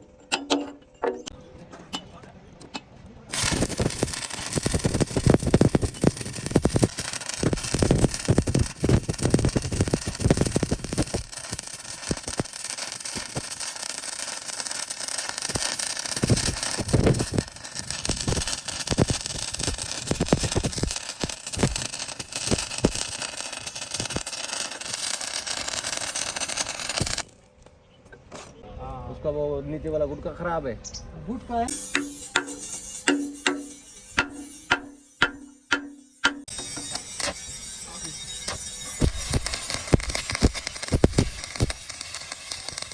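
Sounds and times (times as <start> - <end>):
arc welding crackling sizzle: 3.3 - 27.4, 31.7 - 42.9
sharp welding pops: 3.3 - 27.4, 31.7 - 37.5, 38.4 - 42.9.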